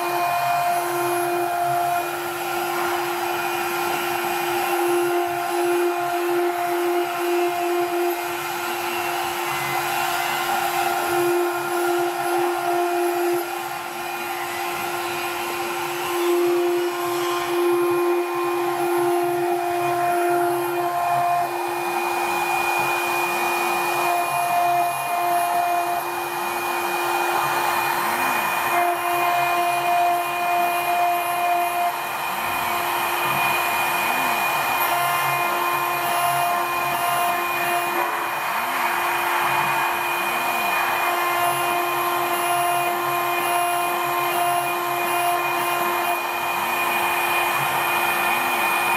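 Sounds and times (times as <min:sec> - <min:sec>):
engraving machine spindle whining: 0:00.0 - 0:48.9
higher machine tone: 0:00.0 - 0:48.9
hiss of bit cutting metal: 0:00.0 - 0:48.9.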